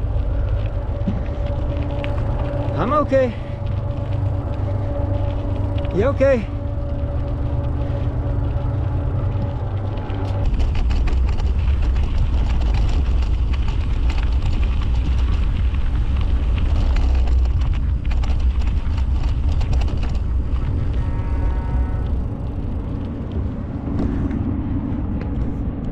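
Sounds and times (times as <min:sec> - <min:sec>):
bike rattling over rocks: 0:00.0 - 0:24.4
steady hum: 0:00.0 - 0:25.9
wind rumble on microphone: 0:00.0 - 0:25.9.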